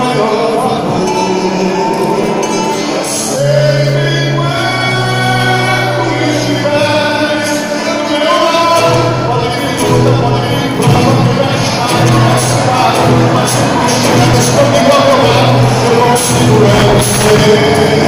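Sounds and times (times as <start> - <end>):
band playing loudly: 0.0 - 18.0
long held bass notes: 0.0 - 18.0
person singing: 0.0 - 18.0.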